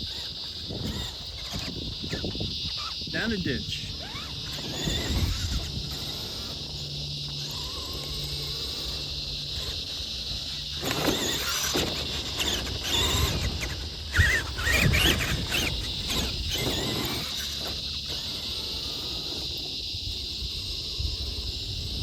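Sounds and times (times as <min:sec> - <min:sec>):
electric motor whining: 0:00.0 - 0:22.0
high insect-like buzz: 0:00.0 - 0:22.0.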